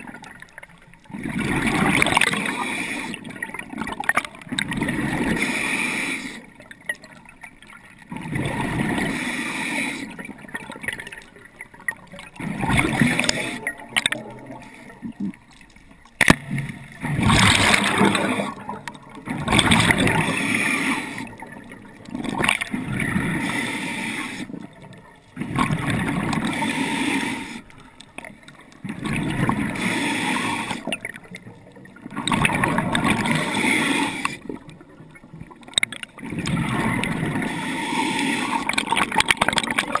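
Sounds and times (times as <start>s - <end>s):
rush of bubbles: 0.0s - 40.0s.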